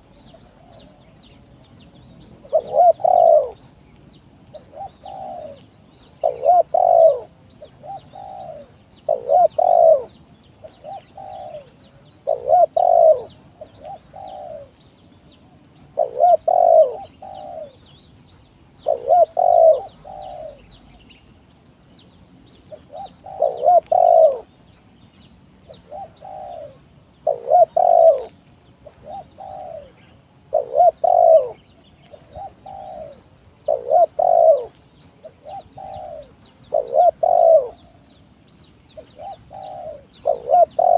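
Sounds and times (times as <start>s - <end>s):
dove cooing: 0.0s - 1.4s, 2.2s - 3.7s, 4.5s - 14.8s, 15.9s - 17.9s, 18.8s - 20.8s, 22.7s - 24.6s, 25.7s - 38.0s, 39.0s - 40.9s
small birds chirping: 0.0s - 40.9s.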